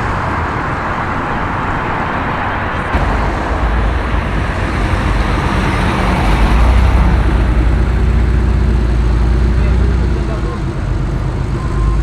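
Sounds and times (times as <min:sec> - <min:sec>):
car engine rumble: 0:00.0 - 0:12.0
road traffic: 0:00.0 - 0:12.0.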